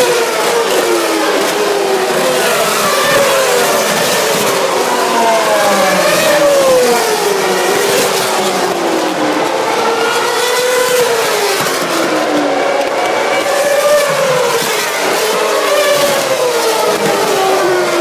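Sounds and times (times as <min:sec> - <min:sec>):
racing car engines passing: 0:00.0 - 0:18.0.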